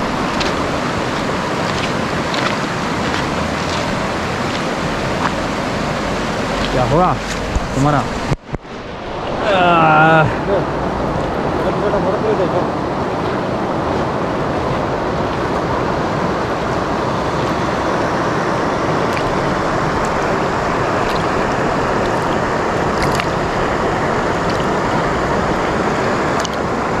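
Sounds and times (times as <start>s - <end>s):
river rushing over stones: 0.0s - 27.0s.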